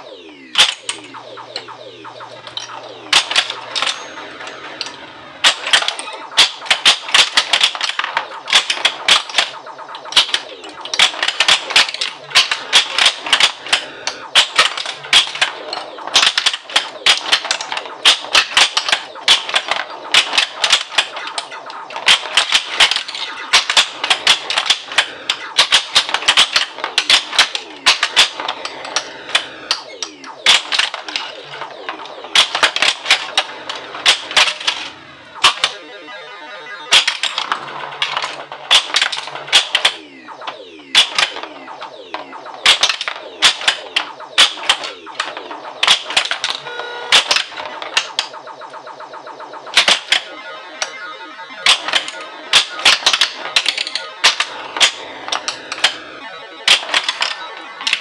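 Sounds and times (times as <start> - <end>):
electronic game sound effects: 0.0 - 58.0
warbling electronic sound: 0.0 - 58.0
pinball flippers and bumpers clacking: 0.6 - 35.8, 36.8 - 58.0.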